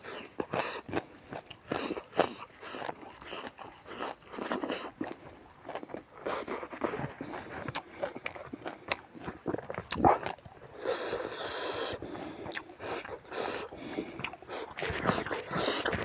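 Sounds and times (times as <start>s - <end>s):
chewing and lip-smacking: 0.0s - 16.0s.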